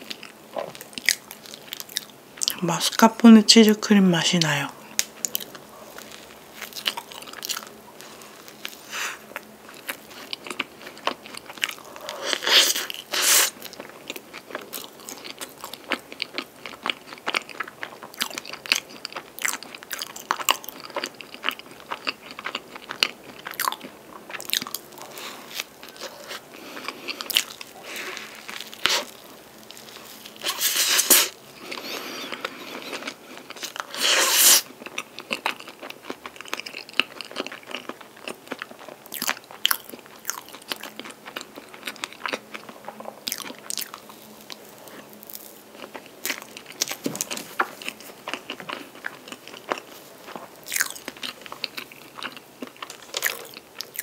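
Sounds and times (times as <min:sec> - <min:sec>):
crunching and chewing pastry: 0:00.0 - 0:03.1, 0:04.8 - 0:54.0.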